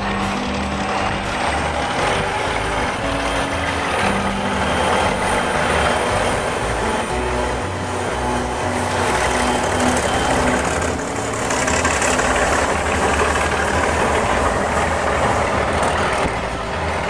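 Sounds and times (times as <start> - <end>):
diesel locomotive engines: 0.0 - 17.0
wagons rolling on rails: 0.0 - 17.0.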